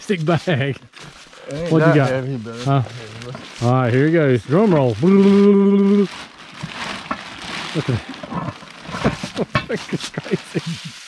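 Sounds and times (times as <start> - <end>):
plastic bag rustling: 0.2 - 11.0.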